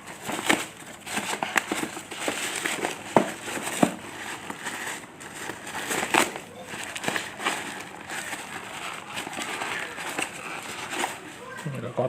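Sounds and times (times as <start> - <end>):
packaging crinkling and snapping: 0.0 - 11.6.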